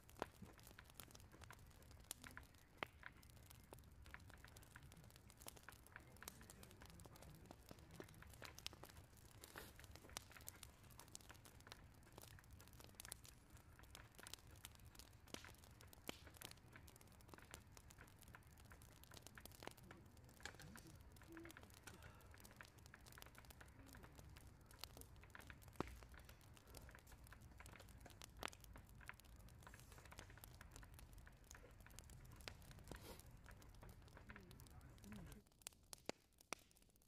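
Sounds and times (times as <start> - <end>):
faint clicks and crackles: 0.0 - 37.0.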